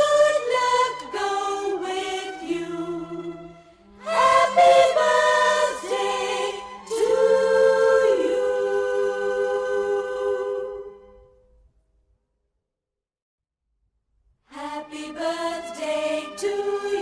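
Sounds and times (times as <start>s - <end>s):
voices singing long notes: 0.0s - 11.2s, 14.6s - 17.0s.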